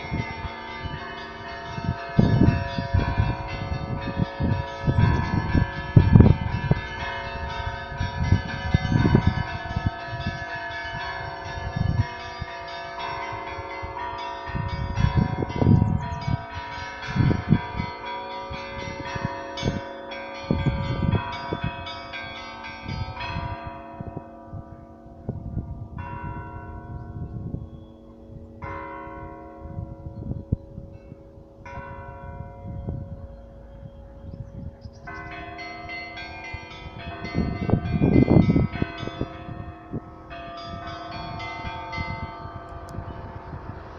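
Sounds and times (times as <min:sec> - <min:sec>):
church bells ringing: 0:00.0 - 0:43.9.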